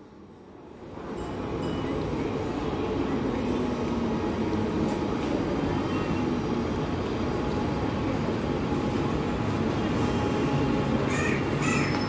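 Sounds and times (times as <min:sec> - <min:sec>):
train wheels rumbling on rails: 0:00.3 - 0:12.0.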